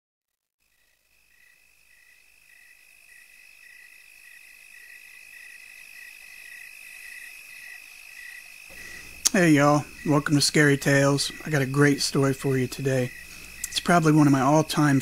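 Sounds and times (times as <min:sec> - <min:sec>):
cricket chirping: 0:00.6 - 0:15.0
cricket trilling: 0:00.6 - 0:15.0.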